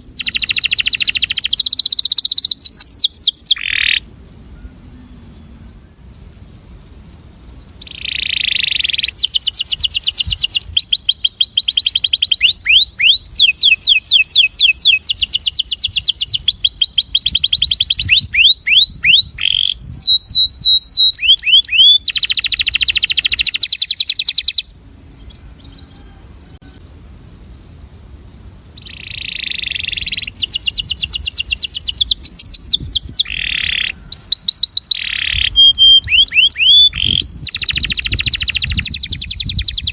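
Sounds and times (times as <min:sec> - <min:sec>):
canary singing trills: 0:00.0 - 0:26.2, 0:28.8 - 0:39.9.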